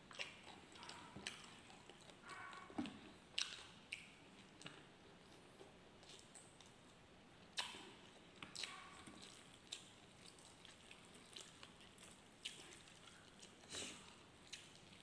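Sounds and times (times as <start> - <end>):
lips smacking while chewing: 0.1 - 4.9, 7.6 - 15.0.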